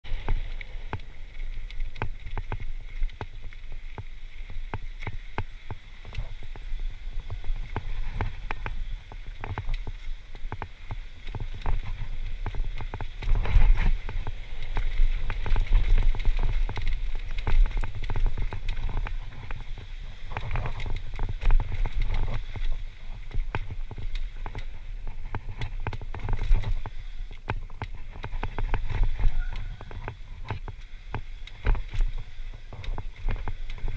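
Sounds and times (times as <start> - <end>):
bike rattling over bumps: 0.0 - 33.9
bike tyres crunching on gravel: 0.0 - 33.9
wind rumble on microphone: 0.0 - 33.9.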